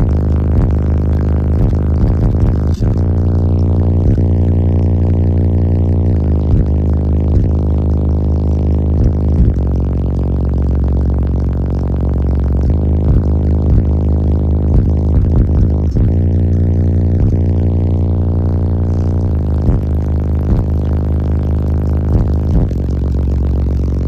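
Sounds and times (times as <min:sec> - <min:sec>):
loud buzzy bass music: 0:00.0 - 0:24.0.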